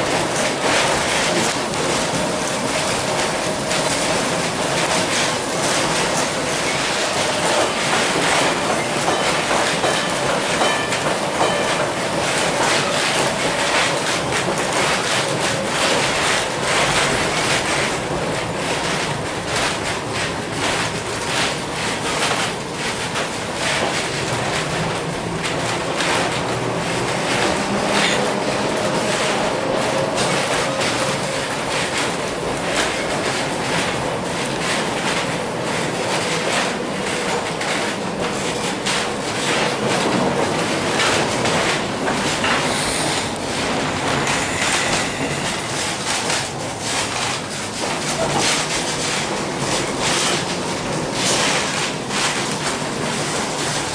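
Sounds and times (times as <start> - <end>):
streetcar wheels rattling on rails: 0.0 - 53.9.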